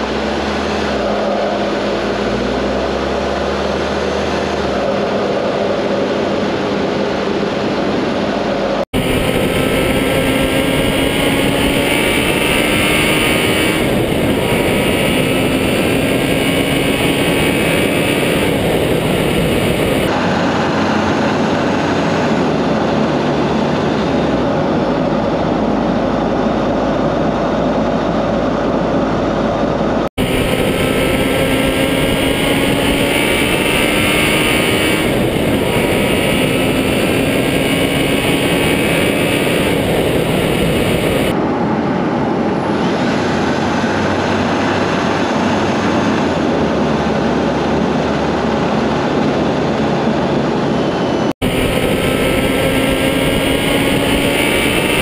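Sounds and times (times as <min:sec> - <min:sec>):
vehicle driving on paved road: 0:00.0 - 0:55.0.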